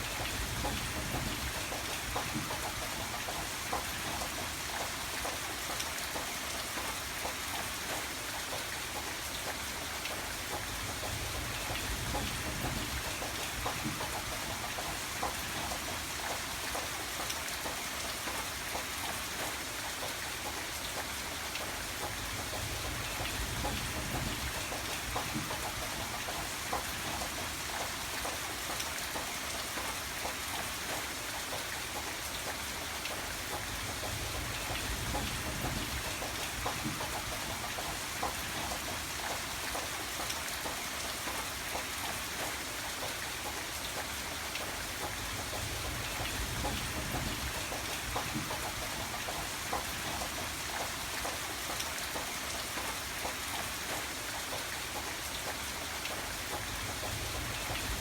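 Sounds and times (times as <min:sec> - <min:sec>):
rain drops tapping: 0:00.0 - 0:58.0.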